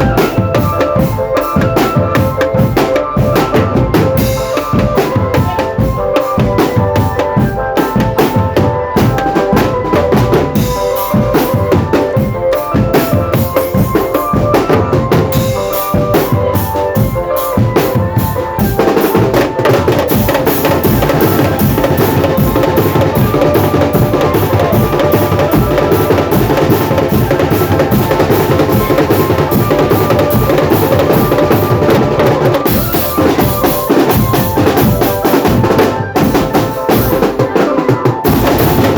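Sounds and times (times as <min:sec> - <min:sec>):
bass drums and snare drums: 0:00.0 - 0:38.9
marching drum band: 0:00.0 - 0:38.9
melody line: 0:00.0 - 0:38.9.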